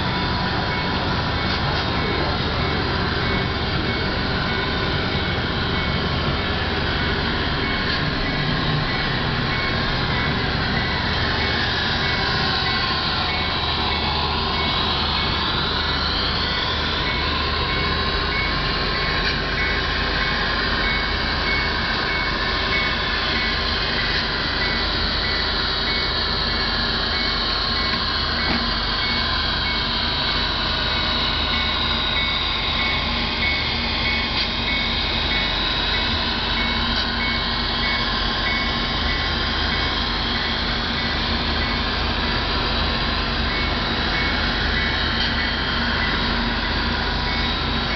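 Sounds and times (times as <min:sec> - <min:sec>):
model trains humming and rumbling: 0:00.0 - 0:47.9.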